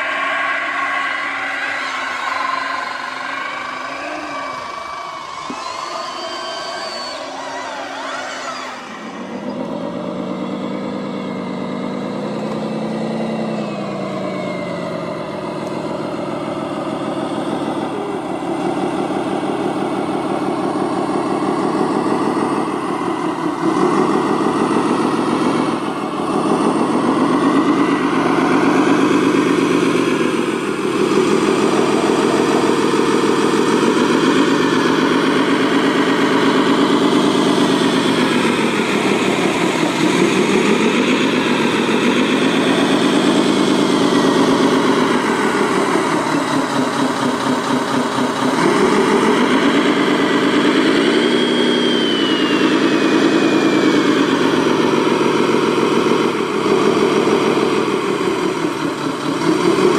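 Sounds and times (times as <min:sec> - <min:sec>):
model machine engines: 0:00.0 - 0:59.9.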